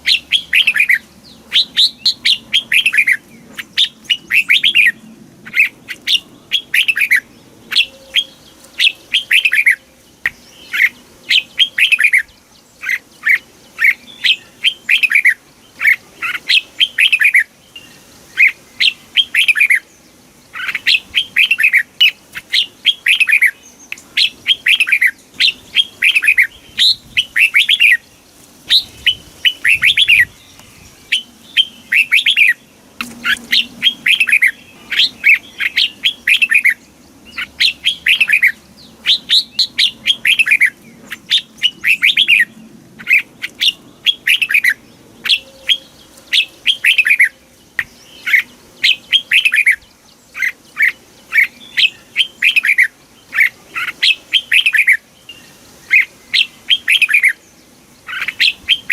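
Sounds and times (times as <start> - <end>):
bird singing whistled notes: 0.0 - 58.9.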